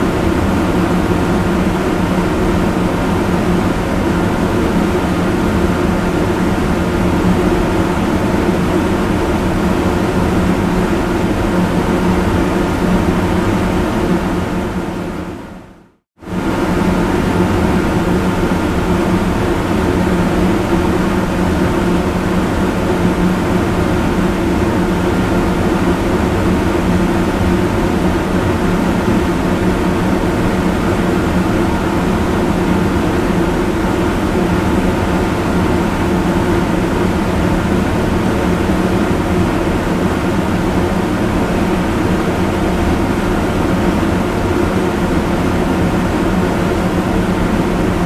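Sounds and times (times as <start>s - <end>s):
fan rushing air: 0.0s - 48.0s.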